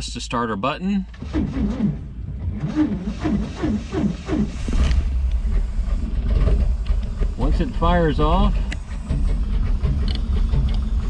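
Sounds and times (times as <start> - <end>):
engine running rumble: 0.0 - 11.0
engine starter cranking: 1.1 - 11.0.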